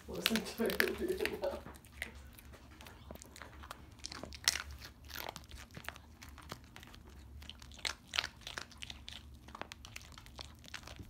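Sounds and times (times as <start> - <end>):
dogs crunching food: 0.0 - 11.0.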